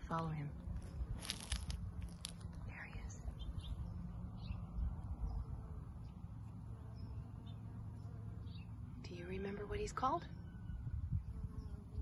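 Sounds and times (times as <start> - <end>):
birds chirping: 2.2 - 12.0.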